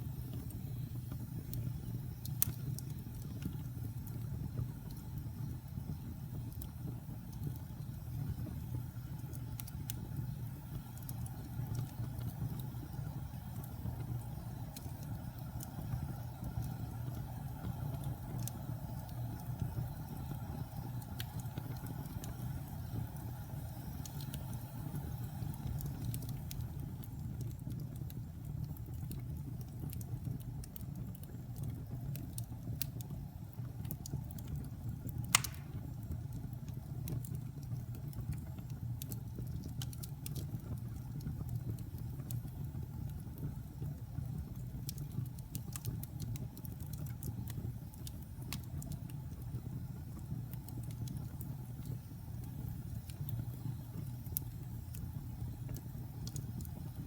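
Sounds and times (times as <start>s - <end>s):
wood fire rumbling and crackling: 0.0s - 57.0s.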